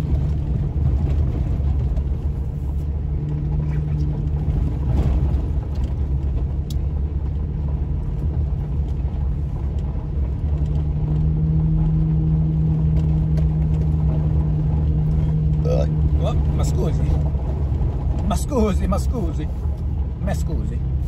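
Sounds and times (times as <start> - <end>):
truck engine drone: 0.0 - 21.0
tyres rumbling on gravel: 0.0 - 21.0.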